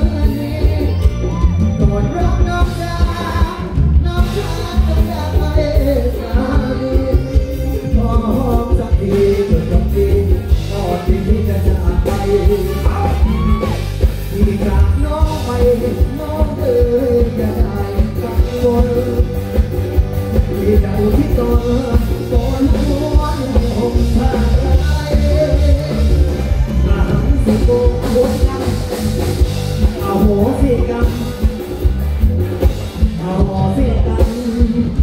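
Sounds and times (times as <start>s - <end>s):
live rock band playing: 0.0s - 35.0s
man singing: 0.0s - 35.0s.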